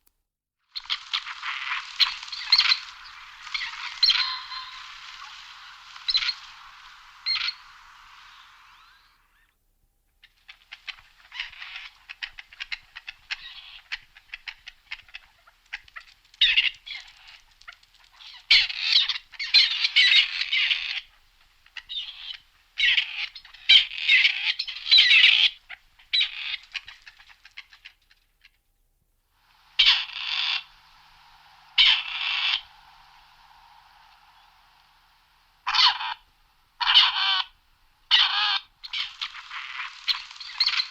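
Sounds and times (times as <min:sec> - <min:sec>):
partridge calling: 0:00.8 - 0:09.5, 0:10.2 - 0:28.6, 0:29.6 - 0:40.9.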